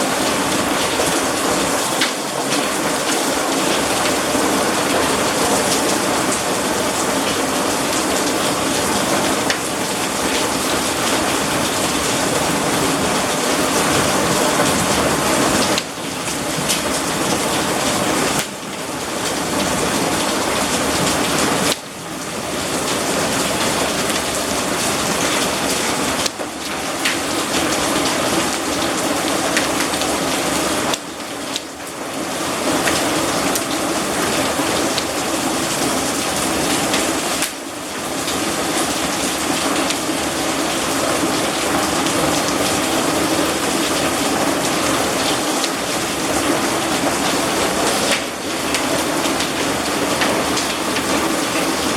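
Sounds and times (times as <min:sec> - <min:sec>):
heavy rain downpour: 0:00.0 - 0:51.9.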